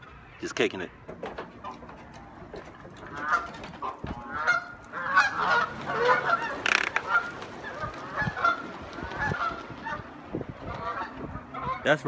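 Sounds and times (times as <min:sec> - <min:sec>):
flock of geese honking: 0:01.6 - 0:12.0.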